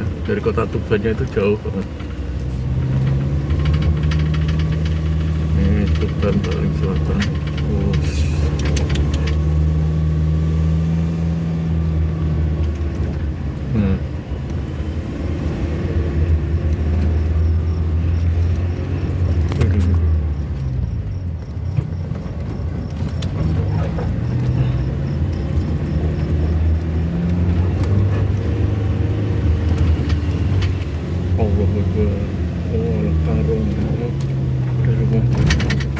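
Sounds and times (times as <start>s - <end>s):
car engine running: 0.0s - 35.9s.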